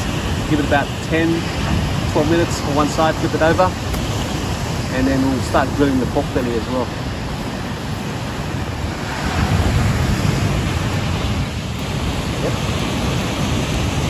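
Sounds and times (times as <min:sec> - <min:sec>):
ocean surf on beach: 0:00.0 - 0:14.0
wind noise on microphone: 0:00.0 - 0:14.0.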